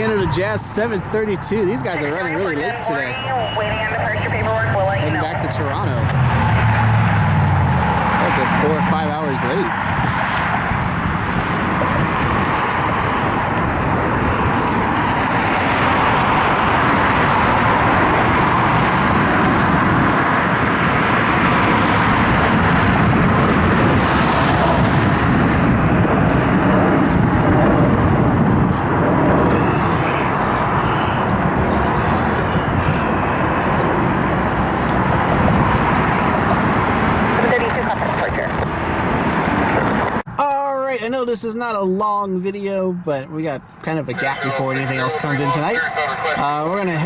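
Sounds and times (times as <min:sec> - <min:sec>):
jet engine rushing: 0:00.0 - 0:38.0, 0:44.1 - 0:47.0.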